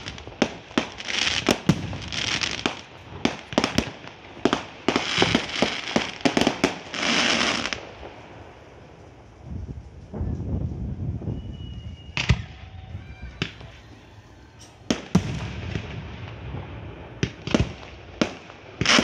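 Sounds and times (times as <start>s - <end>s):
fireworks bangs: 0.0s - 19.0s
fireworks crackle: 0.0s - 19.0s.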